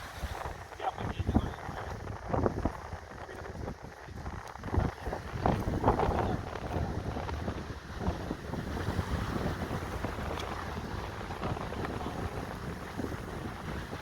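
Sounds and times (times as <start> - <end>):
water rushing and splashing: 0.0 - 14.0
wind buffeting microphone: 0.0 - 14.0.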